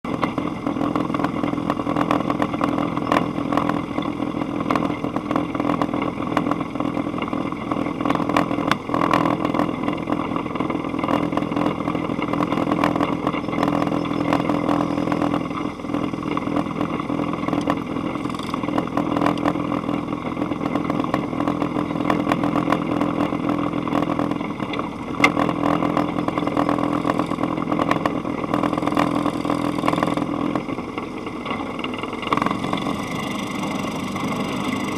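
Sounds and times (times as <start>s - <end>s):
dune buggy engine idling: 0.0s - 34.9s.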